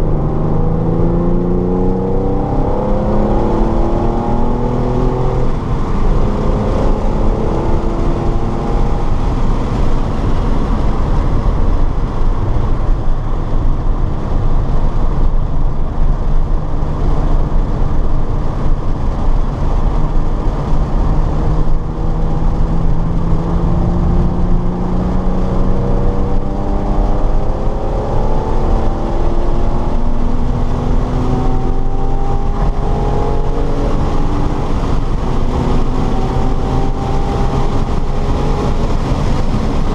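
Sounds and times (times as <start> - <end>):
race car engine accelerating: 0.0 - 12.2, 14.4 - 39.9
road and wind noise: 0.0 - 39.9.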